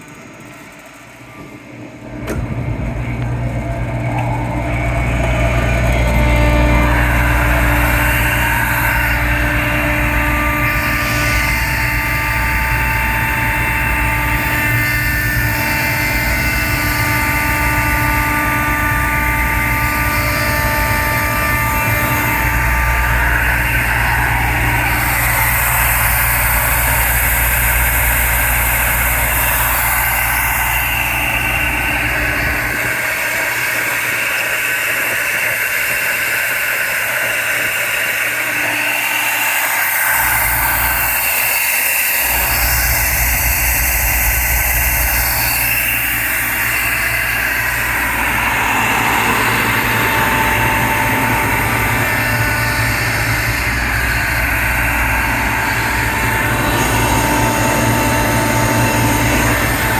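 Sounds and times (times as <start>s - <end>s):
air compressor running: 0.0s - 59.9s
low hum: 0.0s - 59.9s.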